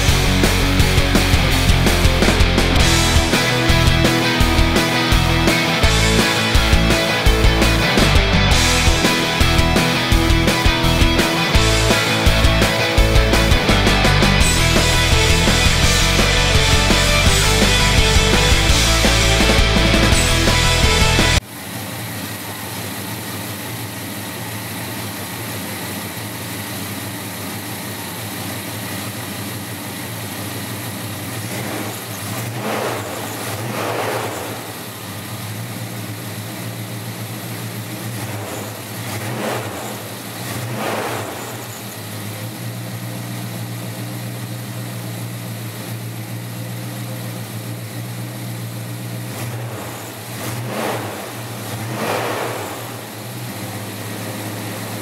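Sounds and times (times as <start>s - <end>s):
car engine idling: 0.0s - 55.0s
car engine revving: 0.0s - 55.0s.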